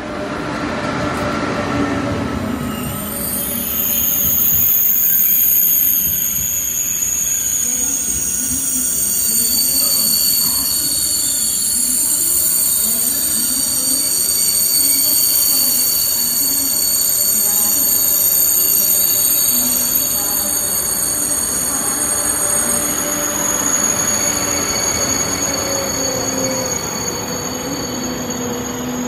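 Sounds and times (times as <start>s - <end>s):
train wheels rumbling on rail: 0.0s - 29.0s
high-pitched whine: 1.2s - 29.0s.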